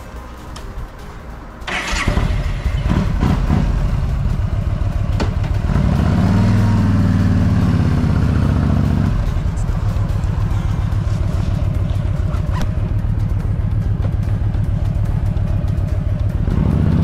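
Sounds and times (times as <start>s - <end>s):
motorcycle engine revving: 1.7s - 17.0s.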